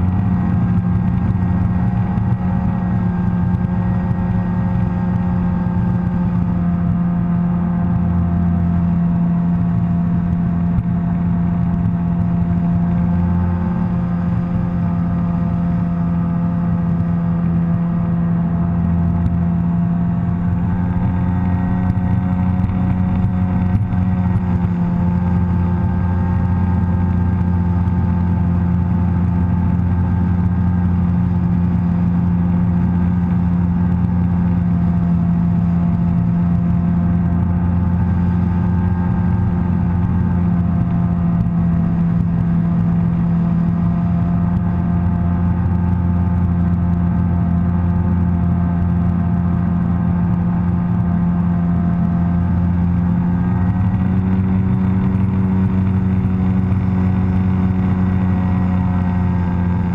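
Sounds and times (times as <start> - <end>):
watercraft engine droning: 0.0 - 59.9.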